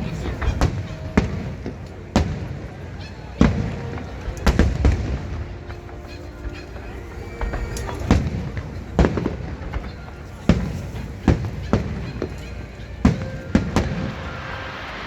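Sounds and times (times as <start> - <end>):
fireworks booming bangs: 0.0 - 15.0.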